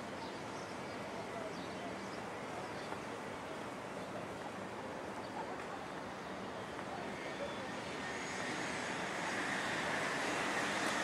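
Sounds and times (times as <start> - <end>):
faint distant sounds: 0.0 - 11.0
outdoor background hiss: 0.0 - 11.0.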